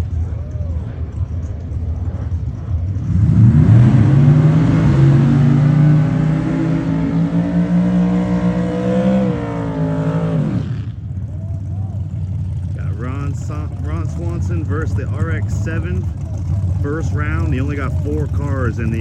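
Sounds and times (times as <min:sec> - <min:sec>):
drag car engine at full throttle: 0:00.0 - 0:19.0.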